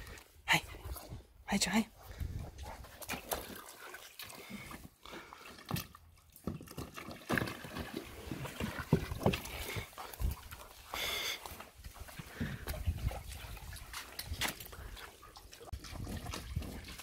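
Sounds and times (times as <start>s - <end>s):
dog splashing water: 2.0s - 17.0s.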